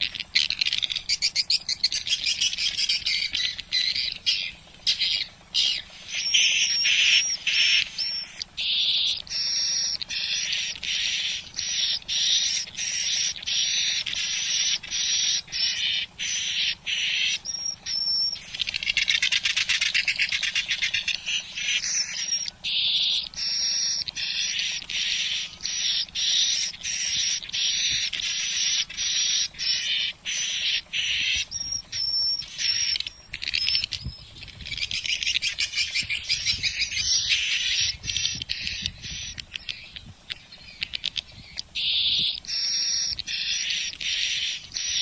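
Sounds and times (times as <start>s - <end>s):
high-pitched bird chirps: 0.0s - 45.0s
rapid buzzing trills: 0.0s - 45.0s.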